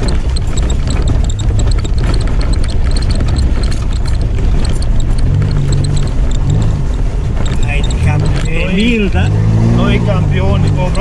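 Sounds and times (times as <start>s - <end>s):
body and suspension rattling: 0.0s - 11.0s
vehicle engine drone: 0.0s - 11.0s.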